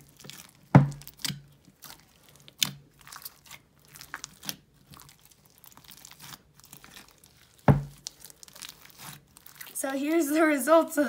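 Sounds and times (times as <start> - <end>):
slime squished by hand: 0.0 - 9.8.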